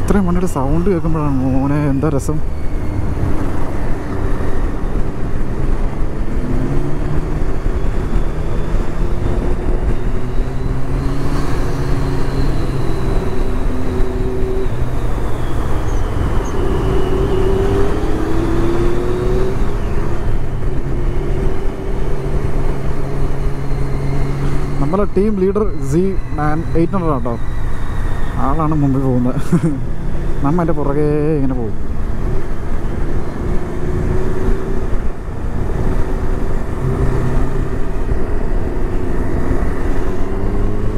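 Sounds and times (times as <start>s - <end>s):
motorcycle engines: 0.0s - 40.9s.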